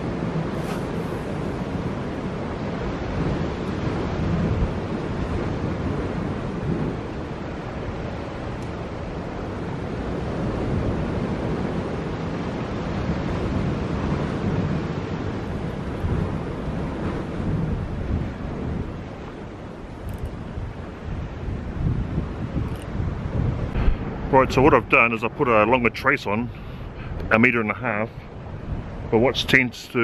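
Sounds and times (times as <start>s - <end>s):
waves washing against rocks: 0.0s - 26.5s
wind on microphone: 0.0s - 30.0s.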